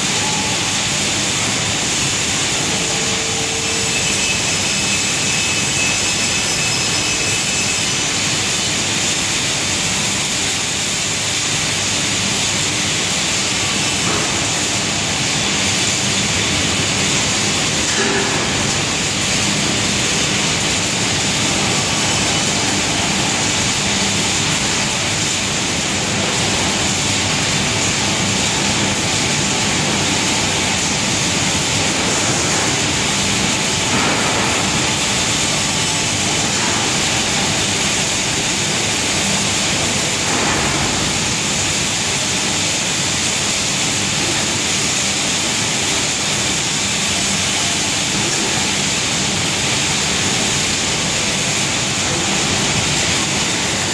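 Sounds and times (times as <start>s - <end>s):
dust-extraction fans running: 0.0s - 53.9s.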